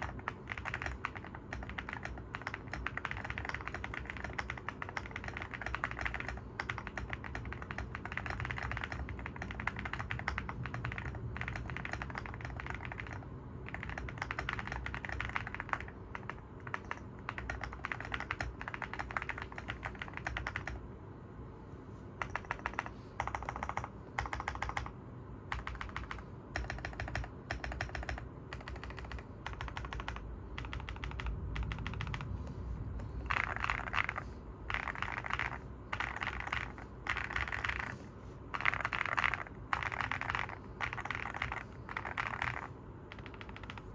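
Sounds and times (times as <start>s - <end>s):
mechanical keyboard typing: 0.0s - 20.8s, 22.2s - 32.4s, 33.2s - 43.9s.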